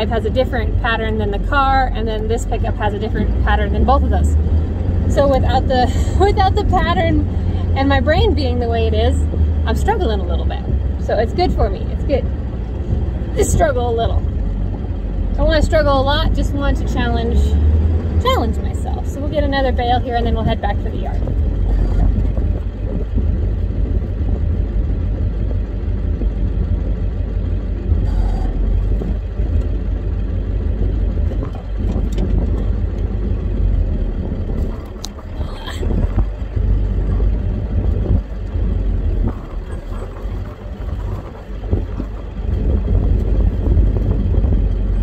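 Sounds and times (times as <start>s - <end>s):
truck engine droning: 0.0s - 45.0s.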